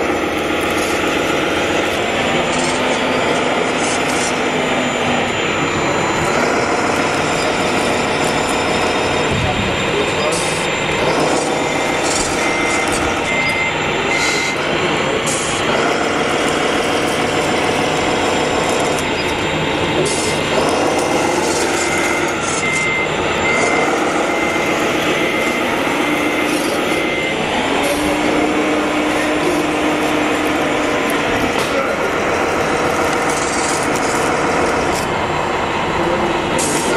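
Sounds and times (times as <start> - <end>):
diesel engine revving: 0.0 - 36.9
reversing beeper: 0.0 - 36.9.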